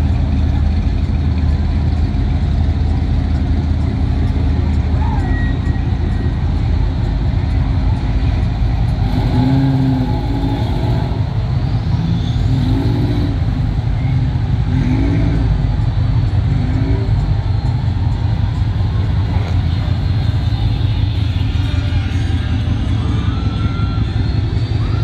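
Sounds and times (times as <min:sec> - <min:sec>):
car engines rumbling: 0:00.0 - 0:25.0.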